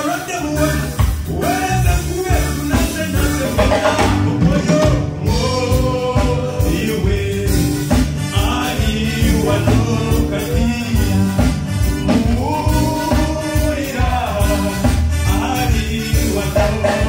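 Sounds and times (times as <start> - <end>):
band playing: 0.0 - 17.0
person singing: 0.0 - 17.0.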